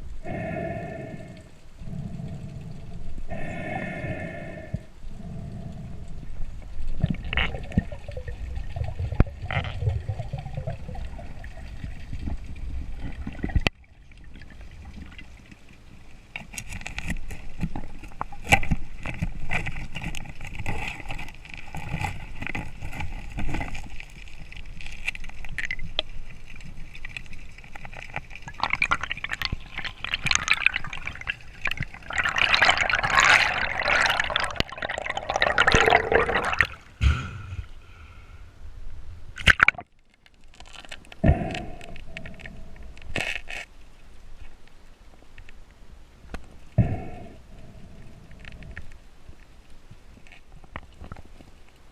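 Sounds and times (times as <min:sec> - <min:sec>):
water bubbling and sloshing: 0:00.0 - 0:37.0, 0:38.9 - 0:45.5.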